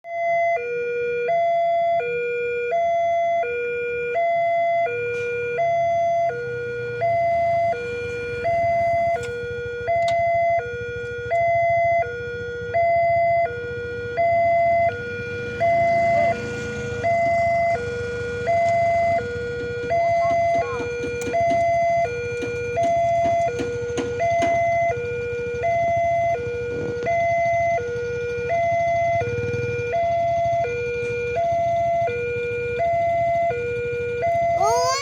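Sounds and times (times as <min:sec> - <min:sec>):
level crossing warning alarm: 0:00.1 - 0:35.0.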